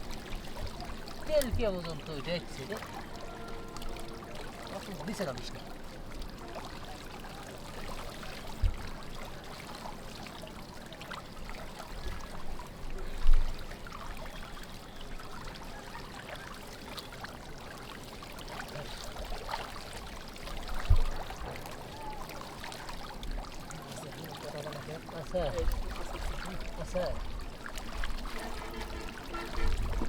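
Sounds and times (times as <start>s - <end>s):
water trickling and splashing: 0.0s - 30.0s.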